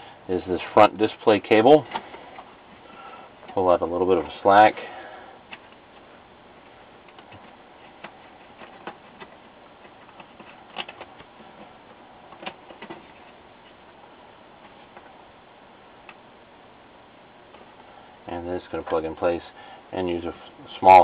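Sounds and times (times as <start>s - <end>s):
steady low hiss: 0.0s - 21.0s.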